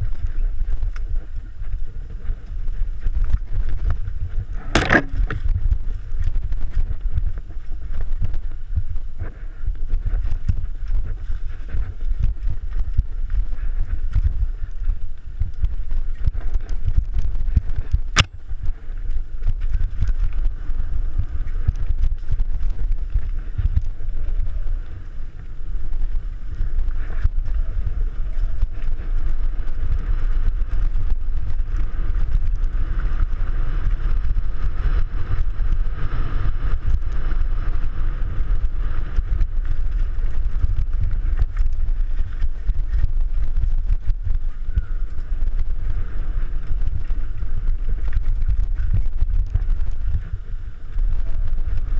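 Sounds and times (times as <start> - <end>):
bike rattling over rough trail: 0.0 - 51.9
wind rumble on microphone: 0.0 - 51.9.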